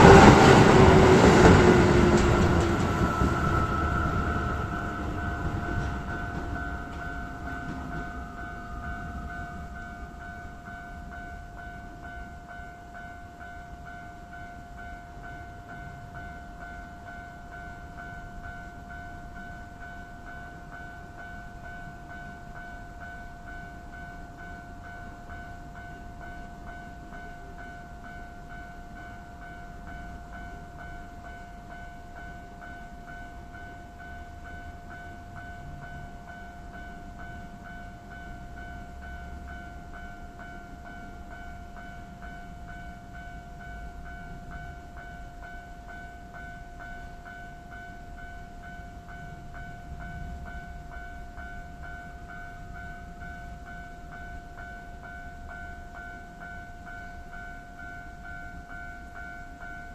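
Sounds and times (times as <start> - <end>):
electric trains rumbling past: 0.0 - 59.9
level crossing warning bell: 0.0 - 59.9.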